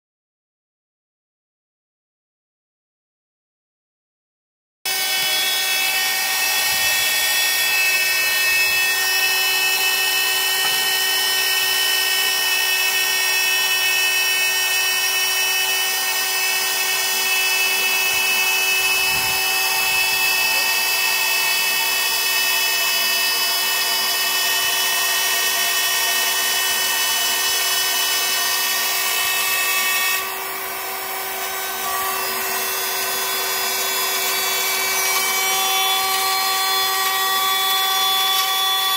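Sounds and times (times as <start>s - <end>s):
milling machine spindle whine: 4.9s - 38.9s.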